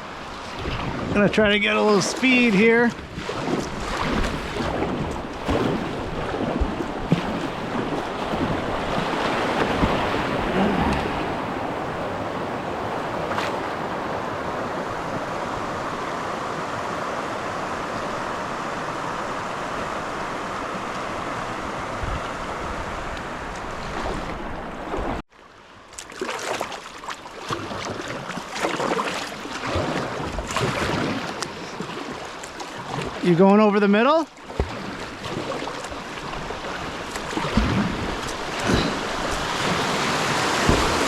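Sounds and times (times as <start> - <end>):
whitewater rushing: 0.0 - 25.1, 27.7 - 41.0
water splashes: 0.0 - 25.2, 25.8 - 41.0.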